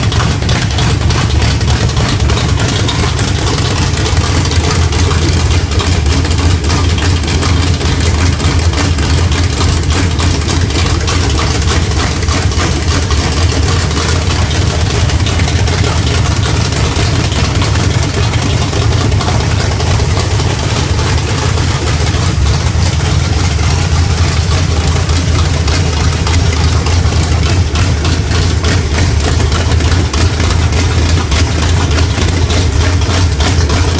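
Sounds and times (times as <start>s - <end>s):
engine idling roughly: 0.0s - 33.9s.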